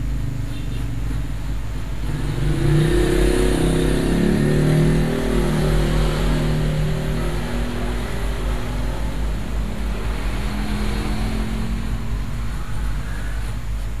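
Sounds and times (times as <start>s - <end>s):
steady low hum: 0.0s - 14.0s
engine running: 1.0s - 14.0s.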